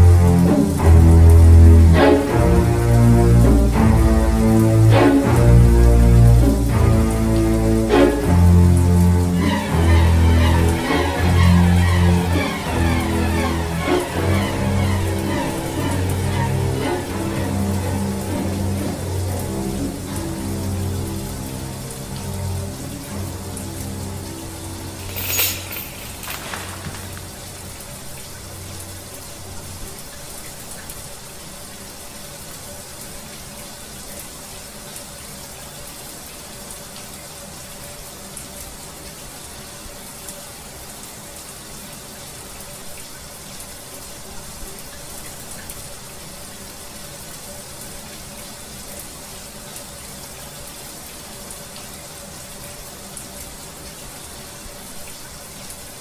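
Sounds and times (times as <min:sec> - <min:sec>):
shower water running: 0:00.0 - 0:56.0.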